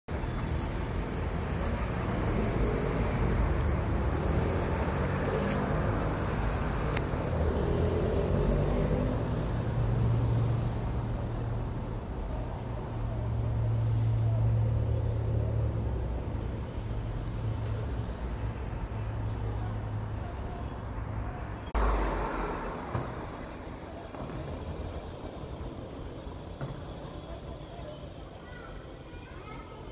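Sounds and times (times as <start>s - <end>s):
city street traffic rumble: 0.1s - 29.9s.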